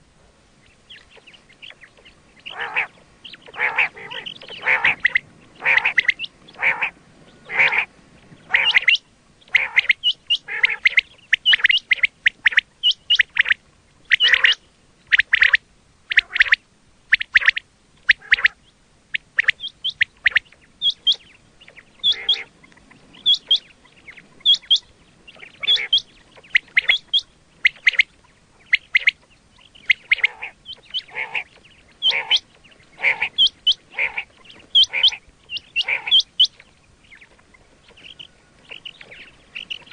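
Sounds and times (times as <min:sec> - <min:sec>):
quail calling: 0:00.6 - 0:39.9.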